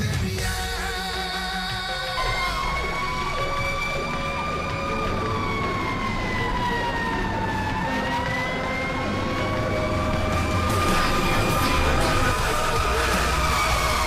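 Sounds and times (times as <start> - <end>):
fire engine siren wailing: 1.6 - 14.0
vehicle road noise: 2.3 - 14.0.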